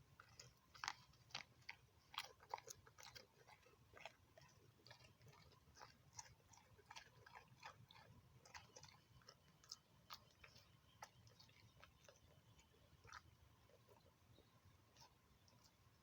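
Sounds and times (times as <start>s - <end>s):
dog chewing food: 0.0s - 16.0s.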